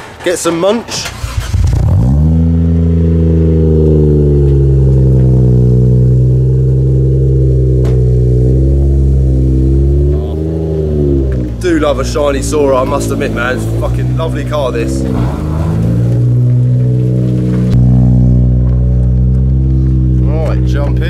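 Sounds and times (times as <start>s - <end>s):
car engine idling: 1.1s - 21.0s.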